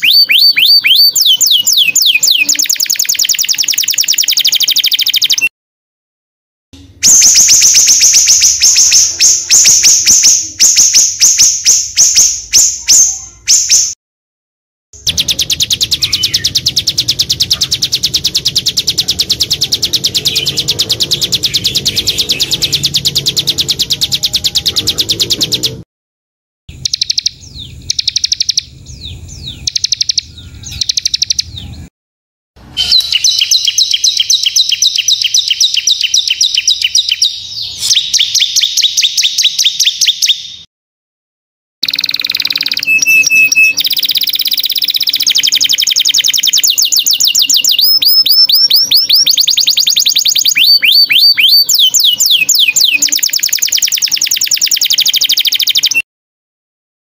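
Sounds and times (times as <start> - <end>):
songbirds singing high trills: 0.0 - 5.5, 7.0 - 14.0, 15.0 - 25.8, 26.7 - 31.9, 32.7 - 40.7, 41.8 - 56.0.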